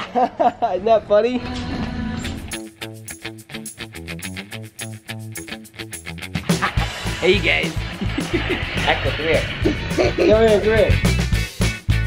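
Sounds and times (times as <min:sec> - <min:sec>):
upbeat guitar music with beat: 0:02.2 - 0:12.0.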